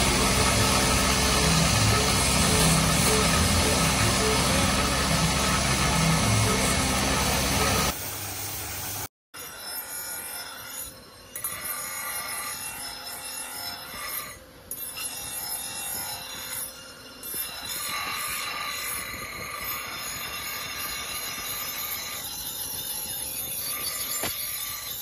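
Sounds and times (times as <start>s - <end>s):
axe head grinding on wheel: 0.0s - 8.0s, 9.4s - 25.0s.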